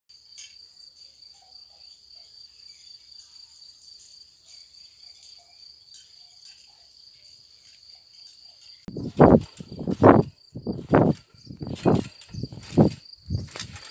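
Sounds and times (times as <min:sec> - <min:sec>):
crickets trilling: 0:00.1 - 0:13.9.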